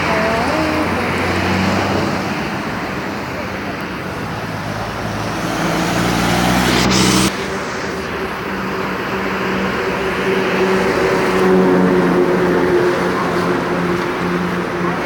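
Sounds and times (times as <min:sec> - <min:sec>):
loud rushing noise: 0:00.0 - 0:15.0.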